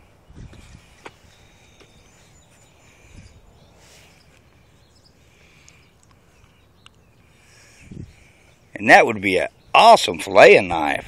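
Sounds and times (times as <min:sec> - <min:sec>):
birds: 0:00.0 - 0:11.0.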